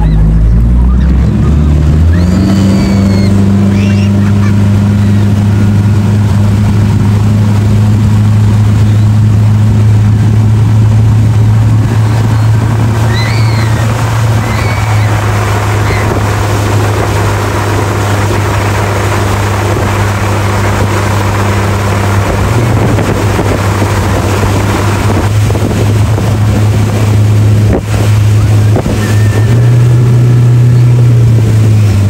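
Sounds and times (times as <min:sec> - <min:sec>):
motorboat engine droning: 0:00.0 - 0:32.0
rushing water: 0:00.0 - 0:32.0
wind on microphone: 0:00.0 - 0:32.0.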